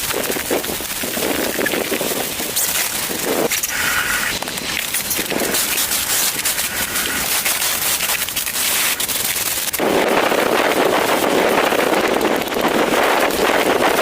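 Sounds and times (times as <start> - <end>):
snowstorm wind: 0.0 - 14.0.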